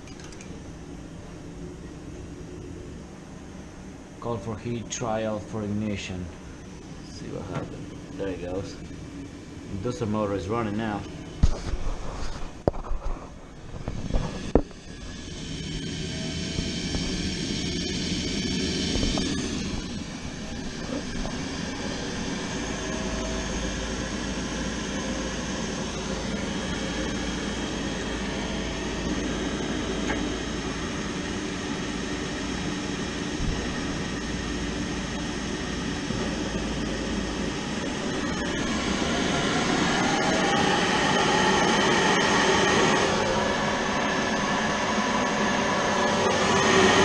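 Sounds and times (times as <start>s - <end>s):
boiler fan motor humming: 0.0s - 47.0s.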